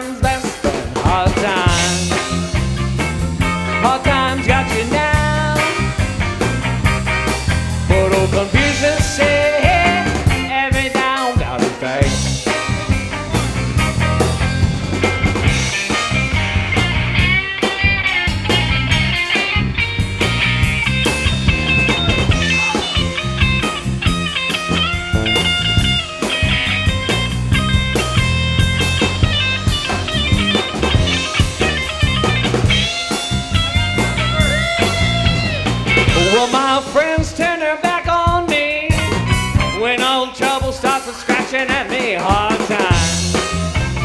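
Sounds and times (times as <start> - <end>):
instrumental band music: 0.0 - 44.0.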